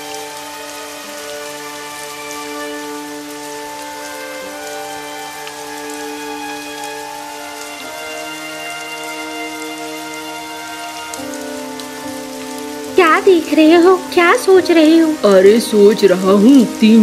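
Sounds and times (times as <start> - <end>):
soft music with held chords: 0.0 - 17.0
steady rain patter: 0.0 - 17.0.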